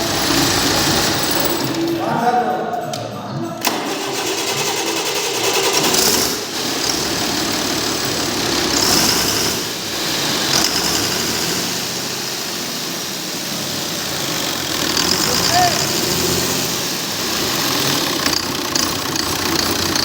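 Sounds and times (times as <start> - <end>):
diesel engine running: 0.0 - 2.0, 3.6 - 20.0.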